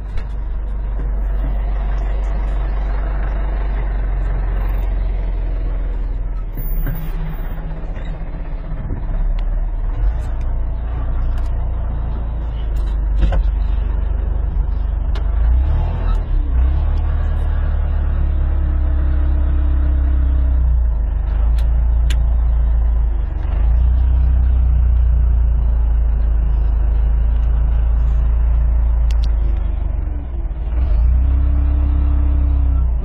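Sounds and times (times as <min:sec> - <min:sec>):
diesel engine drone: 0:00.0 - 0:33.0.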